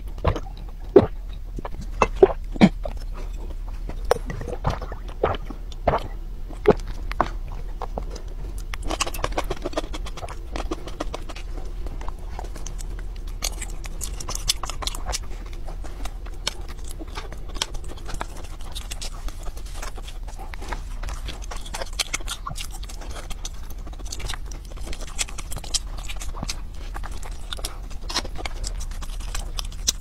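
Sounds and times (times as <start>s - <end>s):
chewing with wet clicks: 0.0s - 30.0s.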